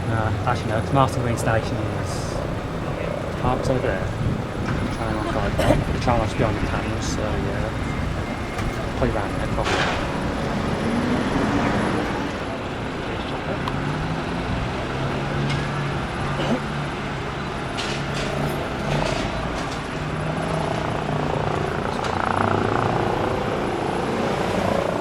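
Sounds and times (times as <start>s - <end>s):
distant helicopter droning: 0.0s - 25.0s.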